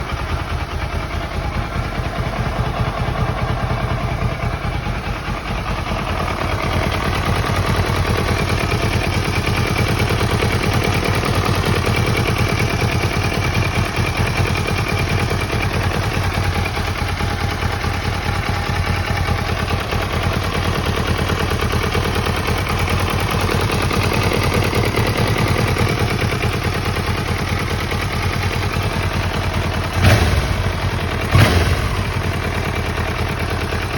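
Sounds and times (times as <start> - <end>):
motorcycle engine running: 0.0 - 33.9
rapid clattering engine tick: 0.0 - 33.9.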